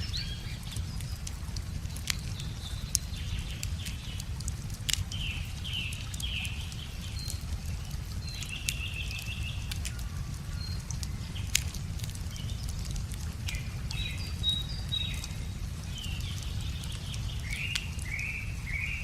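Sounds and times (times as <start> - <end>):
wood fire crackling and popping: 0.0 - 18.9
songbirds singing: 0.0 - 19.0.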